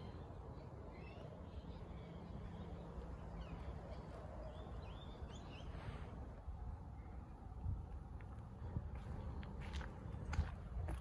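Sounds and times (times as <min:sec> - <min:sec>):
birds chirping faintly: 0:00.0 - 0:11.0
low background noise: 0:00.0 - 0:11.0.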